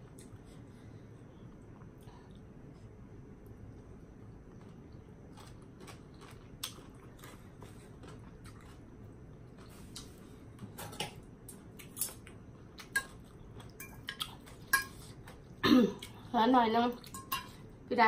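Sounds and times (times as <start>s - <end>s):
faint chewing and eating: 0.0s - 17.9s
low steady background hum: 0.0s - 18.0s.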